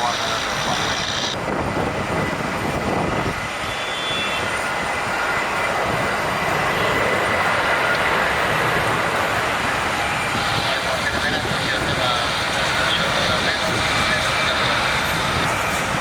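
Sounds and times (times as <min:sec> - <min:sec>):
jet airliner engines: 0:00.0 - 0:16.0.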